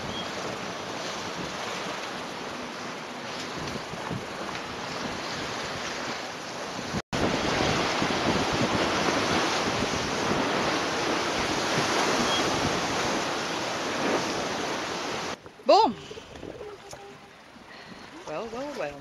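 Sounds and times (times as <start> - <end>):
water rushing along boat hull: 0.0 - 19.0
wind buffeting microphone: 3.2 - 19.0.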